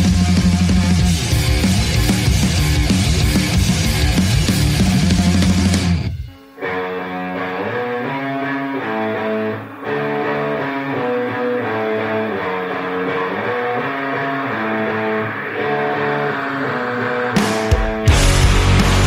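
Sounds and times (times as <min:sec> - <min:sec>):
guitar playing repeating pattern: 0:00.0 - 0:19.0
heavy rock music: 0:00.0 - 0:19.0.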